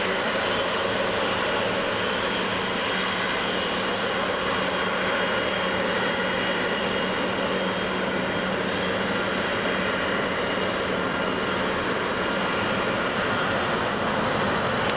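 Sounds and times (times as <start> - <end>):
high engine whine: 0.0 - 14.9
jet engines roaring: 0.0 - 14.9.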